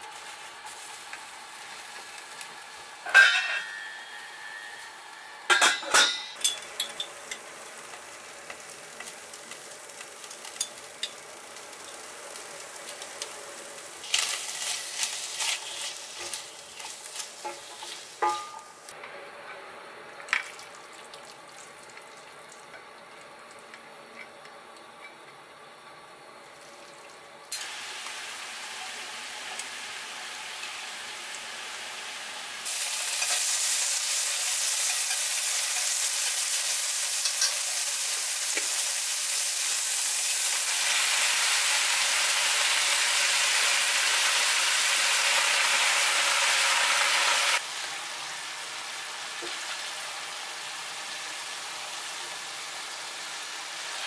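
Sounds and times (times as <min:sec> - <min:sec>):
loud sizzling hiss in a wok: 0:00.0 - 0:19.0, 0:27.5 - 0:54.0
vegetables sizzling in a pan: 0:00.0 - 0:19.0, 0:26.5 - 0:54.0.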